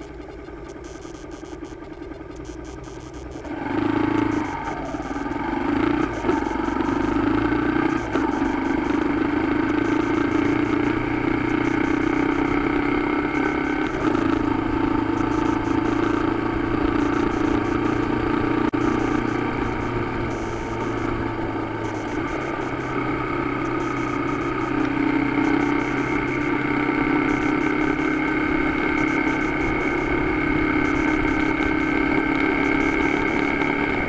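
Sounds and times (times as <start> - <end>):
motorcycle engine accelerating: 0.0 - 34.0
road and wind noise: 0.0 - 34.0.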